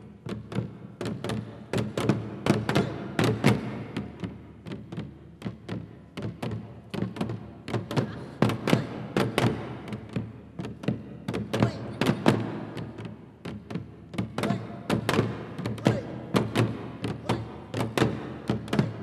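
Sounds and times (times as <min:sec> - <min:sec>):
barrel drums struck with sticks: 0:00.2 - 0:19.0.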